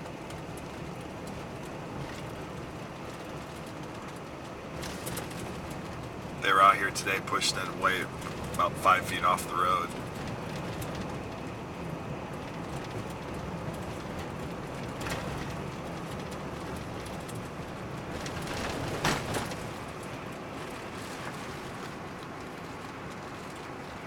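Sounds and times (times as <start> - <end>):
car engine and tyre noise: 0.0 - 24.0.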